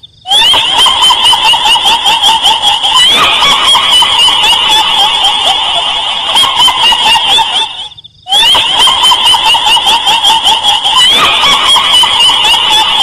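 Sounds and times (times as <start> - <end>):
shrill cackling laughter: 0.2 - 13.0.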